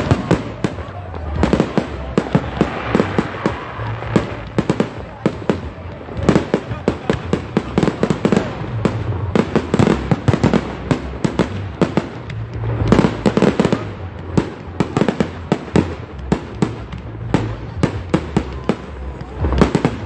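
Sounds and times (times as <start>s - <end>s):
fireworks banging: 0.0s - 20.0s.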